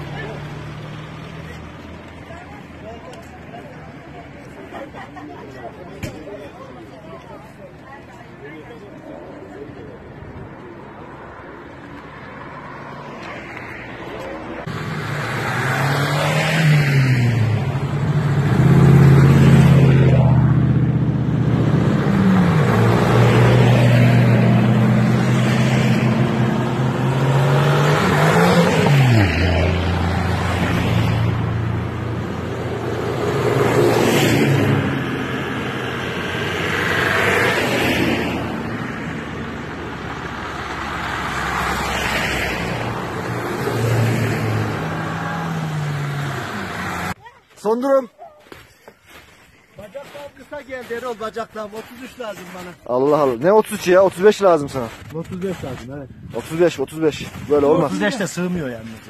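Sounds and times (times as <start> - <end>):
off-road vehicles driving past: 0.0 - 59.0.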